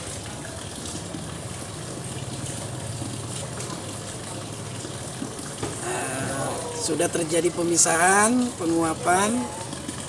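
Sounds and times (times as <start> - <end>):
fizzing hiss of gas bubbles: 0.8 - 10.0.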